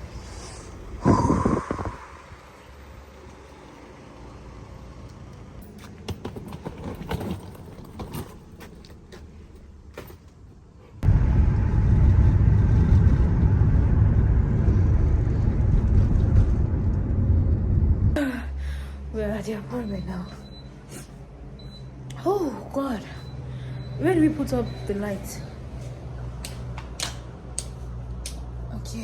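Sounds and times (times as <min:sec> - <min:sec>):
road vehicle rumble: 0:00.0 - 0:29.0.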